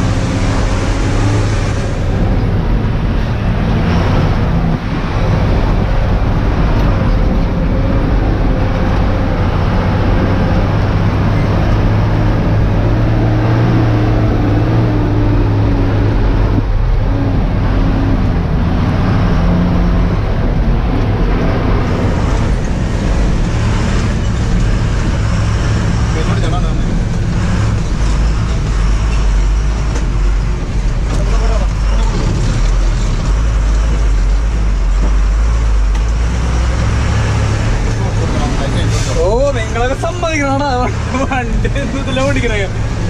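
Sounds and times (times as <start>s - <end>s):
diesel truck engine drone: 0.0s - 43.0s.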